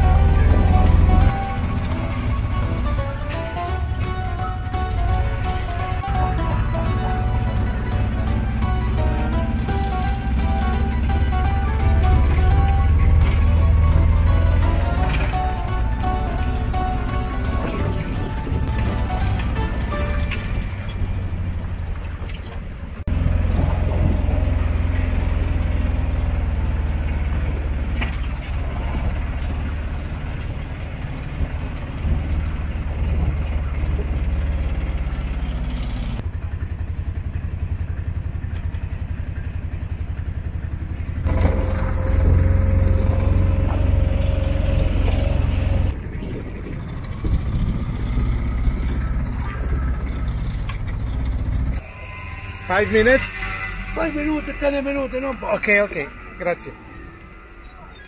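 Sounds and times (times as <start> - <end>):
street noise: 0.0 - 58.0
tuk-tuk engine rumbling: 0.0 - 58.0.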